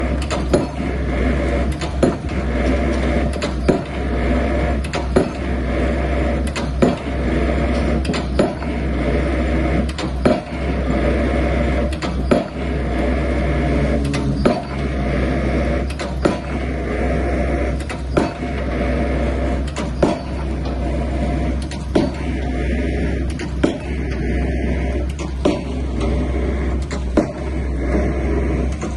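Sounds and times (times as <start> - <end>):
pile-driving hammer blows: 0.0 - 28.9
rig engine running: 0.0 - 28.9.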